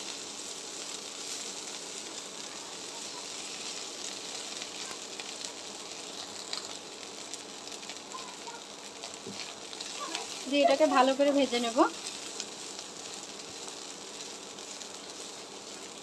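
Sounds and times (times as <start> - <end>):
fish frying in oil: 0.0 - 16.0
oil crackling and spitting: 0.0 - 16.0.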